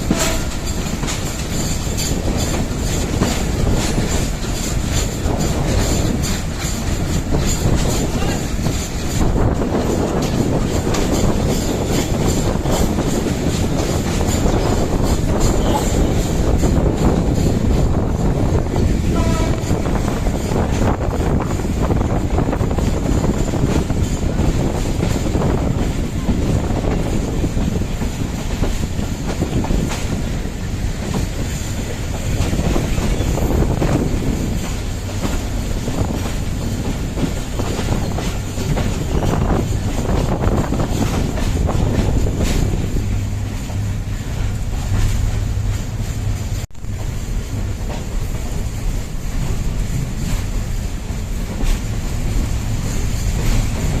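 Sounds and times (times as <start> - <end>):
train rumbling along track: 0.0 - 54.0
wheels clacking over rail joints: 0.0 - 54.0.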